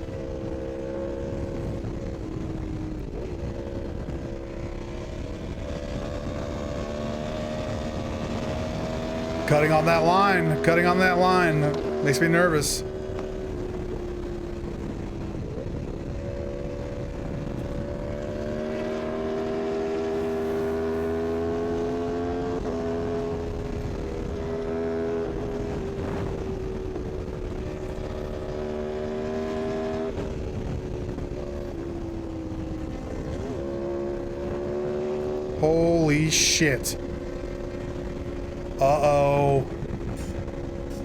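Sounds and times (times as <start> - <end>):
motorcycle engine at high revs: 0.0 - 36.1, 36.9 - 41.0.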